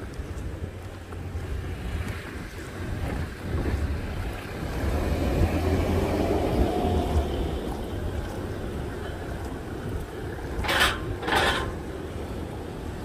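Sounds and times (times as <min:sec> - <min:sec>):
steady outdoor rush: 0:00.0 - 0:13.0
wind buffeting microphone: 0:00.0 - 0:13.0.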